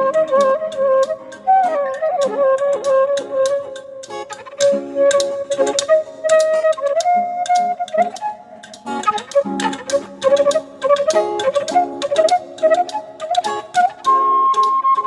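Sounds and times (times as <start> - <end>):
wind instrument melody: 0.0 - 15.0.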